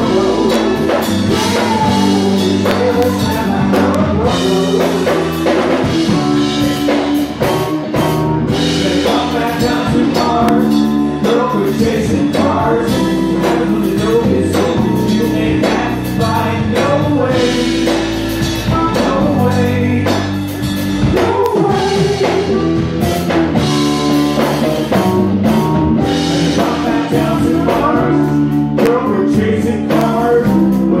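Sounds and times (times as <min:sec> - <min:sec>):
man singing: 0:00.0 - 0:25.0, 0:26.0 - 0:31.0
drum kit: 0:00.0 - 0:31.0
electric guitar: 0:00.0 - 0:31.0
keyboard: 0:00.0 - 0:31.0.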